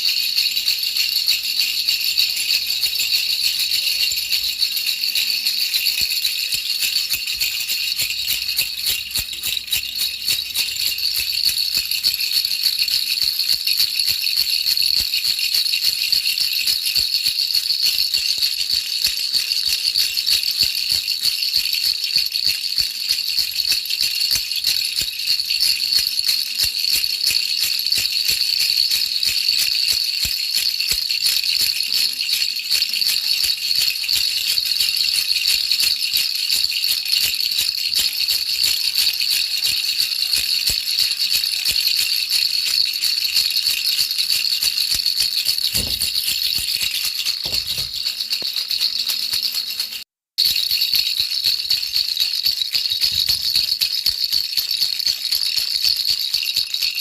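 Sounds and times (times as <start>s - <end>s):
baby rattle shaking: 0.0s - 57.0s.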